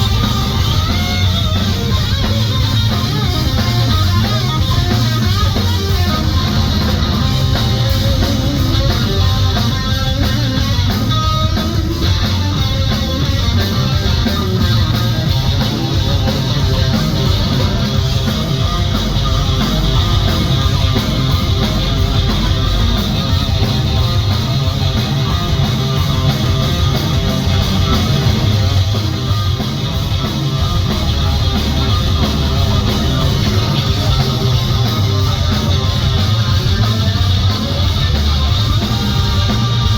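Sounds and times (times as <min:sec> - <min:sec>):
electric guitar: 0:00.0 - 0:39.9
live hard rock band: 0:00.0 - 0:39.9.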